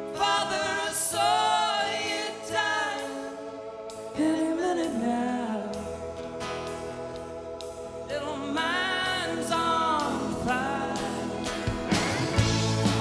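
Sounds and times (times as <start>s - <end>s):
voices singing in harmony: 0.0s - 6.1s, 8.1s - 12.6s
live band playing: 2.5s - 13.0s.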